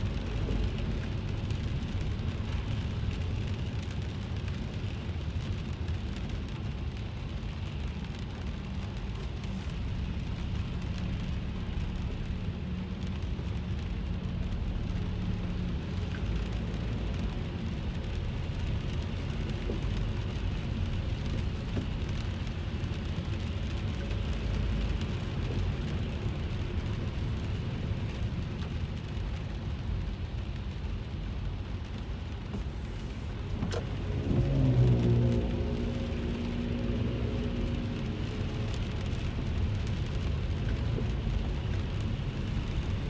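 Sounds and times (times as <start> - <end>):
car rumbling on road: 0.0 - 43.0
rain falling on a car: 0.0 - 43.0.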